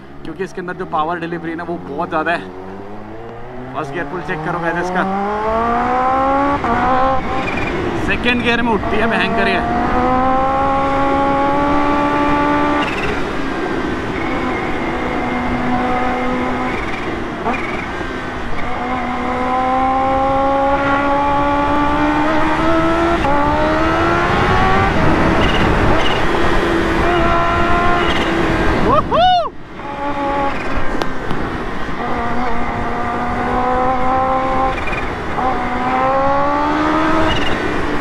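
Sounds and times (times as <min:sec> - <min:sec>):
motorcycle engine revving: 0:00.8 - 0:28.9, 0:29.8 - 0:38.0
wind rush: 0:02.5 - 0:38.0.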